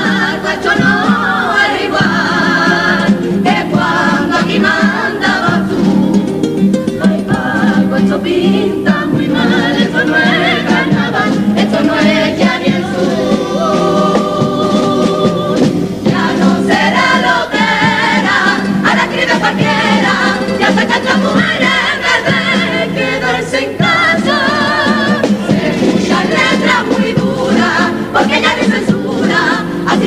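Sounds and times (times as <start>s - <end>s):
mixed chorus singing: 0.0s - 6.4s, 7.0s - 30.0s
drum: 0.0s - 23.0s, 23.6s - 30.0s
guitars: 0.0s - 30.0s.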